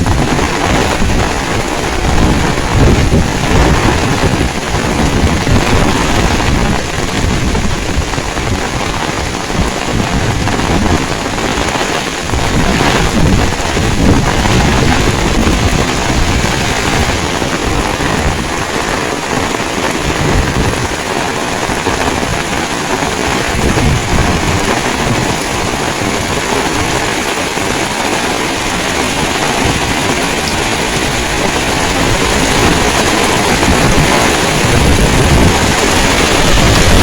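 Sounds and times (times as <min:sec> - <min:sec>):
heavy rain falling: 0:00.0 - 0:37.0
wind buffeting microphone: 0:00.0 - 0:37.0.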